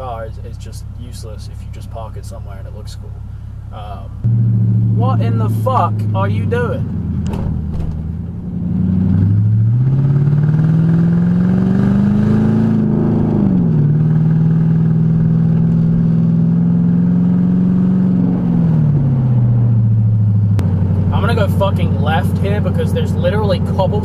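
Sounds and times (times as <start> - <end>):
loud car engine revving: 4.2 - 24.0.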